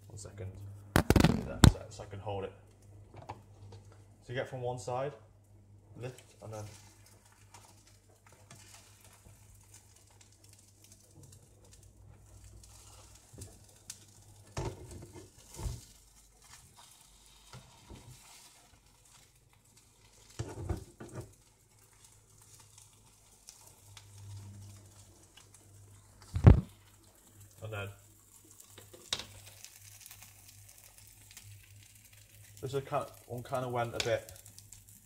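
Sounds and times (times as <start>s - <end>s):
omelette frying in pan: 0.9s - 1.9s, 5.4s - 35.0s.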